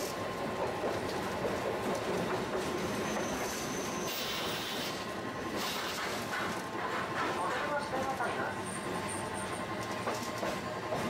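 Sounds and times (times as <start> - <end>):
streetcar wheels rumbling on rail: 0.0 - 11.0.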